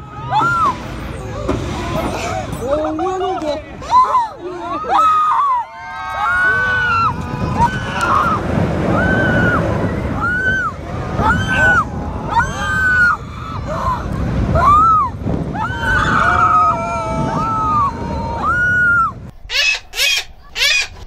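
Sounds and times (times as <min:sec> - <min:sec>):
wind rushing across microphone: 0:00.0 - 0:19.4.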